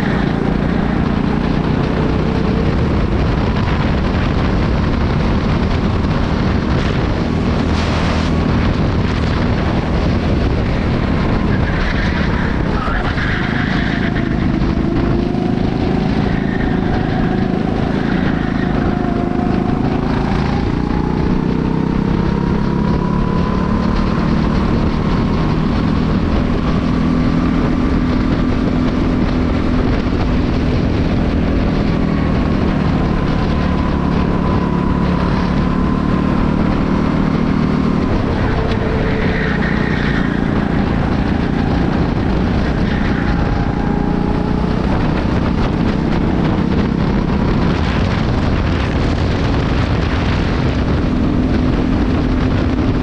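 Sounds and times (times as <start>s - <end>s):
racing kart engine: 0.0s - 53.0s
wind noise on microphone: 0.0s - 53.0s.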